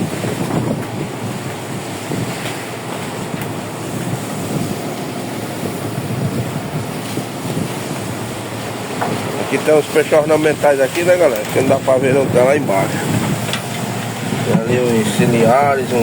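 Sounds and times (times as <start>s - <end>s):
waves washing: 0.0s - 16.0s
wind buffeting microphone: 0.0s - 16.0s.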